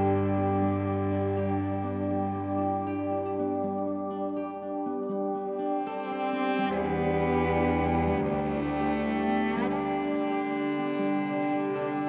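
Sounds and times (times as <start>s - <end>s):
music of sustained notes: 0.0s - 12.0s.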